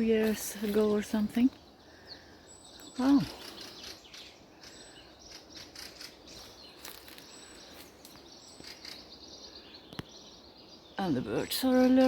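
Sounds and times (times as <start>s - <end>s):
small birds chirping alarm calls: 0.0s - 12.0s.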